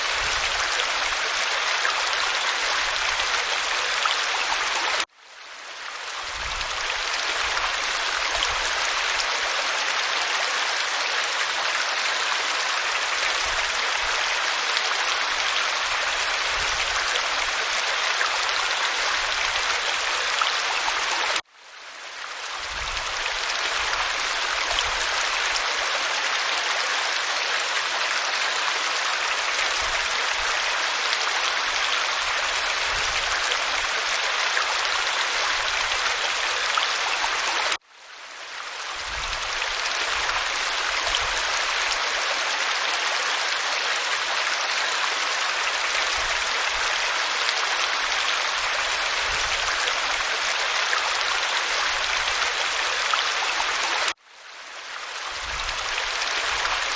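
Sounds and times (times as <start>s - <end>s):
waterfall pouring over rocks: 0.0s - 56.9s.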